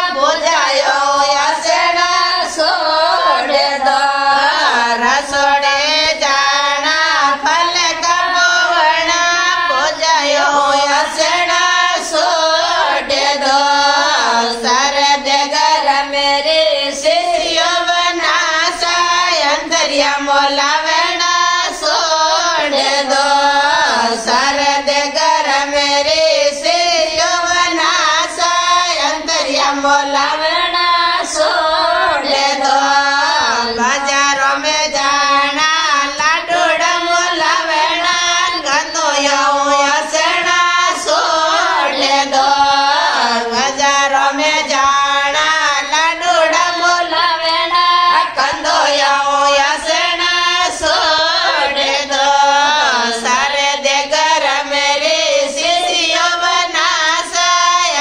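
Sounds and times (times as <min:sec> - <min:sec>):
women singing folk song together: 0:00.0 - 0:58.0.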